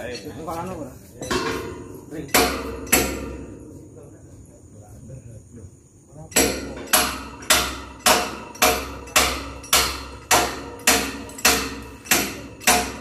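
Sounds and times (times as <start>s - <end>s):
sharp metallic knocks: 0.0s - 4.2s, 6.2s - 13.0s.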